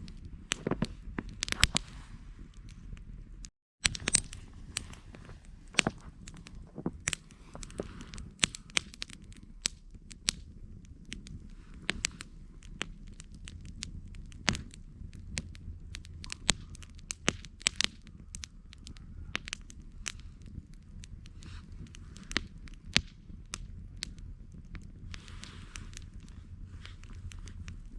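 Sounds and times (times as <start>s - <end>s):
low rumble of burning: 0.0s - 27.9s
sharp snaps of fire: 0.0s - 27.9s
wood fire crackling and popping: 0.0s - 27.9s.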